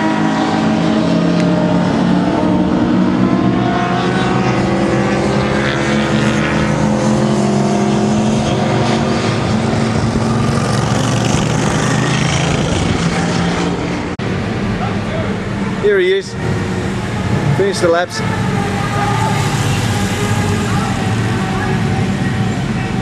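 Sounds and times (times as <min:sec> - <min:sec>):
motorcycles racing past: 0:00.0 - 0:14.2, 0:16.6 - 0:23.0.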